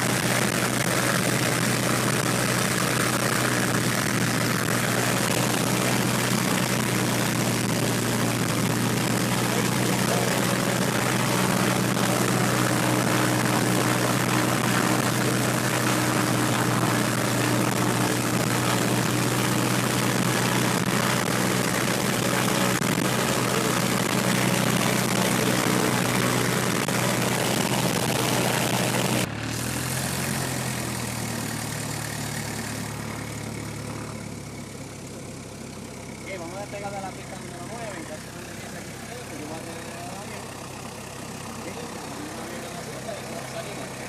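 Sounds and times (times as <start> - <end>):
propeller aircraft engine running: 0.0 - 44.0.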